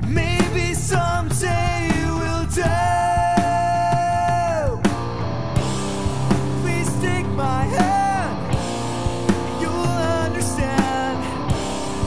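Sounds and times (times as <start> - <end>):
rock song with singing: 0.0 - 12.0.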